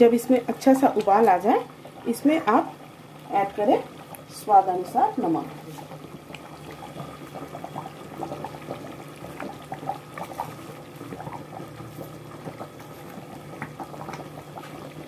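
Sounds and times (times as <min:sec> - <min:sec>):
low steady hum: 0:00.0 - 0:15.0
thick gravy bubbling: 0:00.0 - 0:15.0.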